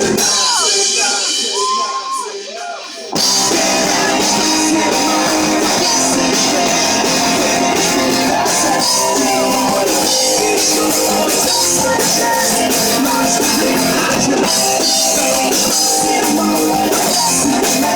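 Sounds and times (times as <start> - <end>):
live rock band playing: 0.0 - 2.2, 3.1 - 17.9.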